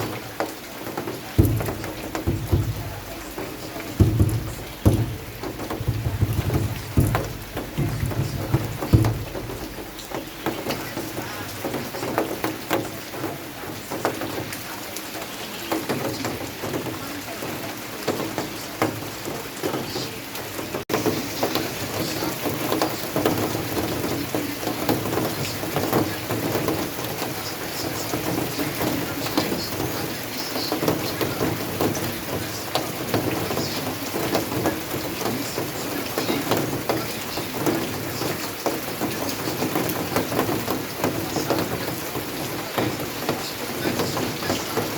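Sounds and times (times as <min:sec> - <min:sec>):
raindrops ticking on surfaces: 0:00.0 - 0:44.9
steady rain falling: 0:00.0 - 0:44.9.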